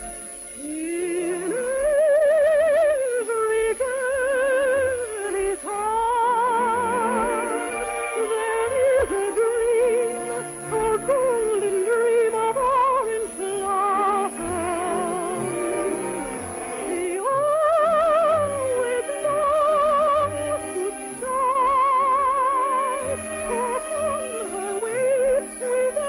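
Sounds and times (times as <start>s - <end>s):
orchestral accompaniment: 0.0s - 1.0s, 6.0s - 26.0s
soprano singing with vibrato: 0.0s - 26.0s.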